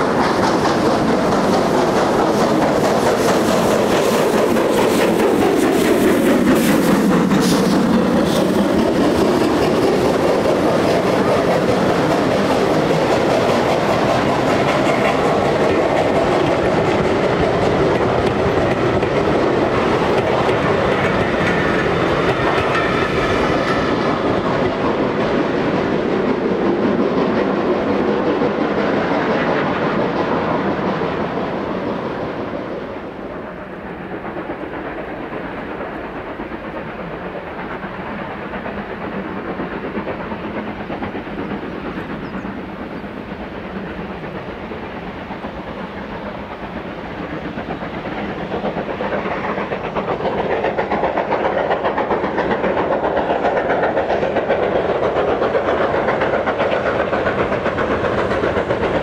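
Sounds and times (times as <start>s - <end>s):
train coaches clickety-clack: 0.0s - 59.0s.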